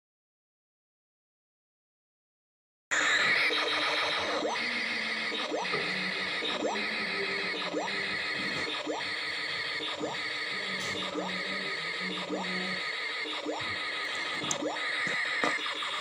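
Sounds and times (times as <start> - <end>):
electronic warbling tone from speaker: 2.9 - 16.0.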